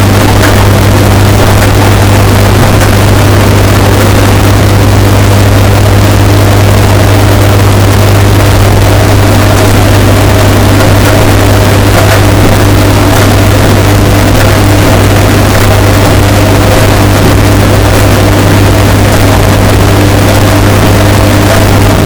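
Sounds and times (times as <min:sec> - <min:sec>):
distorted washing machine drone: 0:00.0 - 0:22.0.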